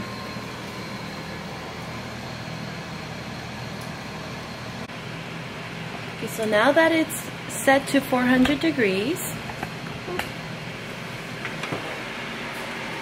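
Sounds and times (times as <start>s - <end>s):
oven whirring hum: 0.0s - 13.0s.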